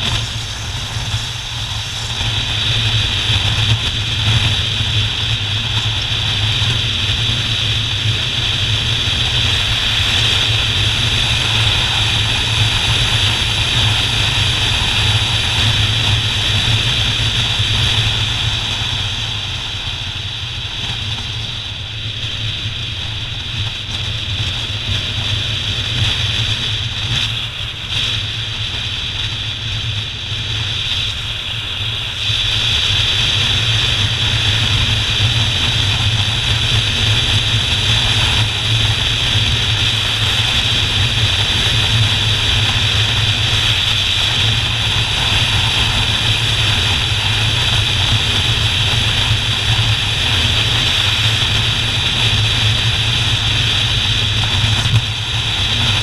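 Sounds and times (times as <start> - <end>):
motorcycle engine and road noise: 0.0 - 56.0.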